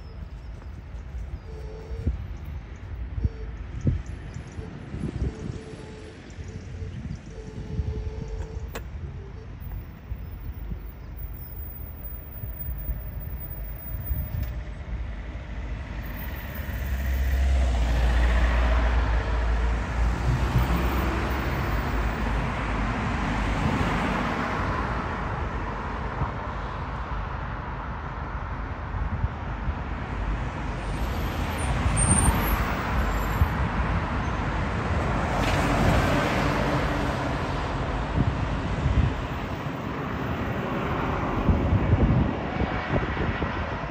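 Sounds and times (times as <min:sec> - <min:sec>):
wind gusting on microphone: 0:00.0 - 0:43.9.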